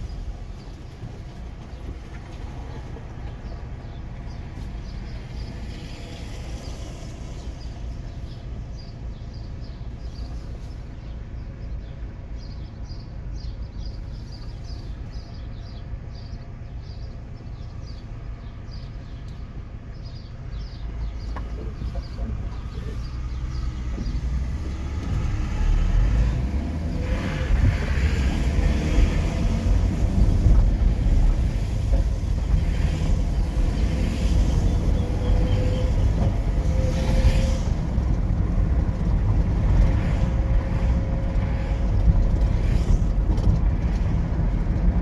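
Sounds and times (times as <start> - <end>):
vehicle rumbling: 0.0 - 45.0.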